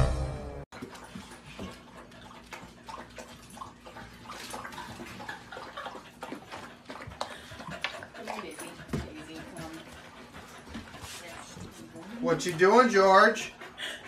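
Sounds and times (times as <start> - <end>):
puppy splashing and lapping water: 0.7 - 14.0.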